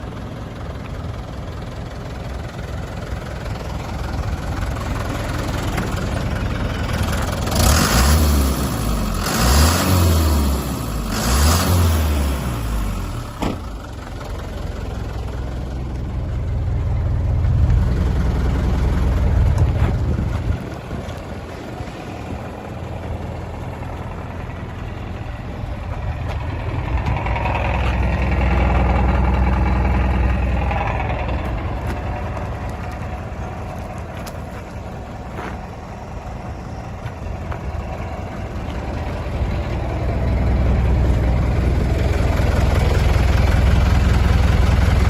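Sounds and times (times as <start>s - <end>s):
diesel engine idling and revving: 0.0s - 45.0s.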